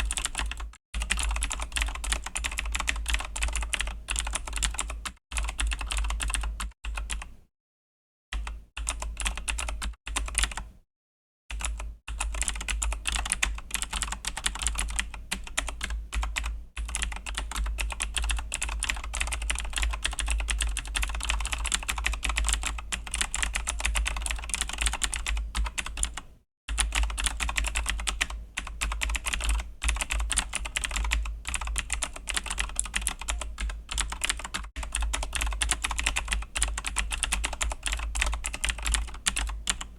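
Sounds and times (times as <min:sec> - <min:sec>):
fast typing on mechanical keyboard: 0:00.0 - 0:07.3, 0:08.4 - 0:10.7, 0:11.5 - 0:39.9.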